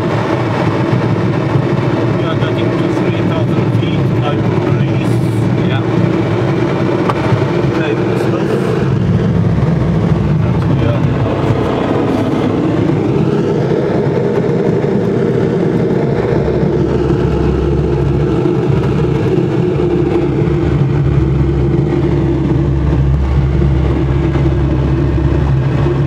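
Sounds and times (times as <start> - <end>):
airflow rushing around cockpit: 0.0 - 26.0.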